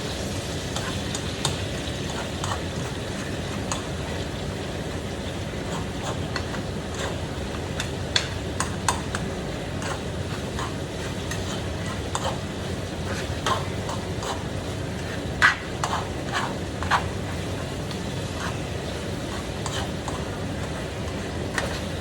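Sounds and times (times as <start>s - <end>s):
food sizzling in a frying pan: 0.0s - 22.0s
utensil clinking against cookware: 0.7s - 4.2s, 5.3s - 22.0s.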